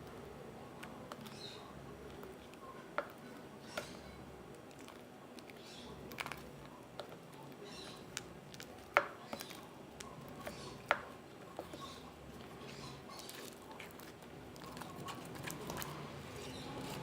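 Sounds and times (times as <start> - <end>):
slime squelching: 0.7 - 17.0.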